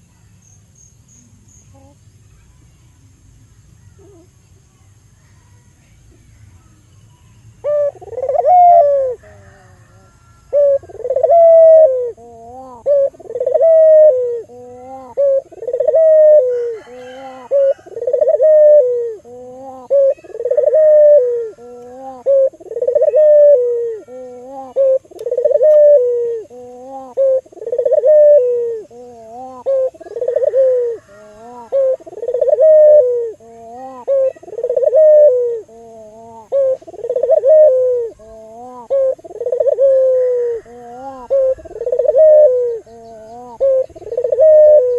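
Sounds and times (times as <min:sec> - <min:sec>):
dove cooing: 0:07.6 - 0:44.9.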